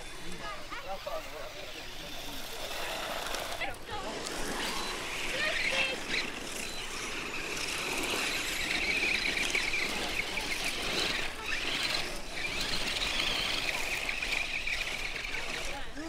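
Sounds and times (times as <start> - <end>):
rc car motor whining: 0.0 - 16.0.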